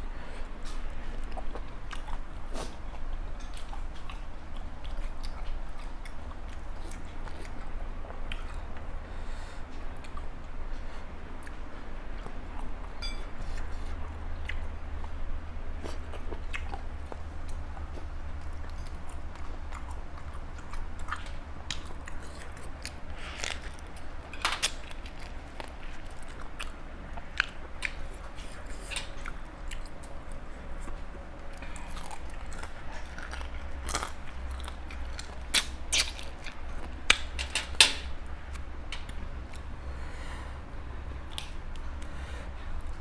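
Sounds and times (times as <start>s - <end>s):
chewing and crunching food: 0.0s - 43.0s
steady low hum: 0.0s - 43.0s.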